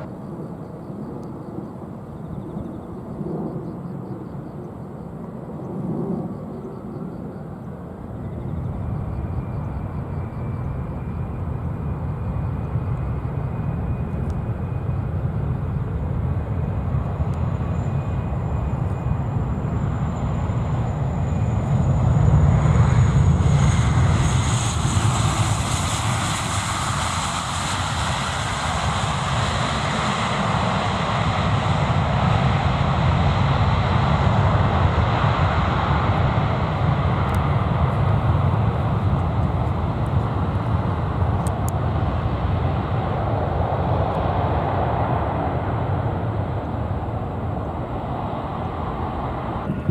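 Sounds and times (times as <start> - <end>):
airliner engine noise: 0.0 - 49.9
high engine whine: 0.0 - 49.9.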